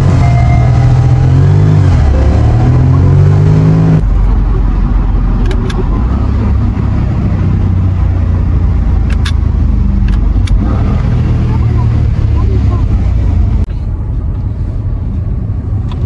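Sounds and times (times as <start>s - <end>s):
car engine accelerating: 0.0s - 16.0s
engine and road drone: 0.0s - 16.0s.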